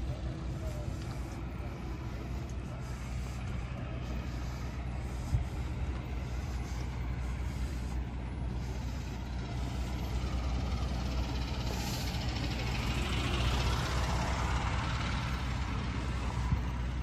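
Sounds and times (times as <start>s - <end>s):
engine idling: 0.0s - 17.0s
outdoor background noise: 0.0s - 17.0s.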